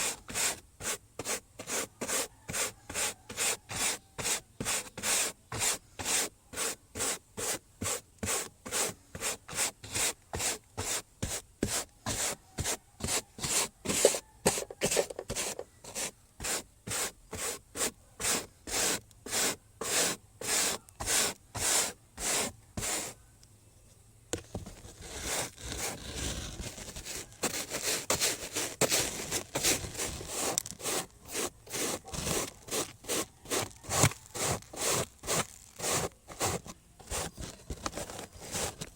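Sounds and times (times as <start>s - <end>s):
hand scrubbing: 0.0s - 23.2s, 24.9s - 37.3s.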